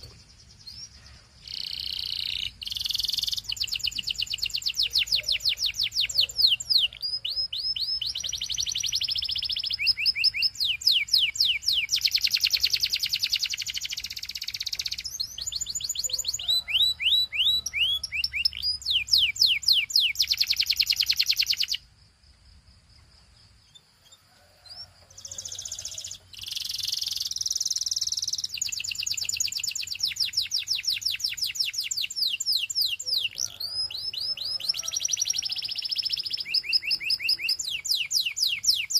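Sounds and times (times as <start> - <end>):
canary singing trills: 0.0 - 21.9, 23.3 - 38.9.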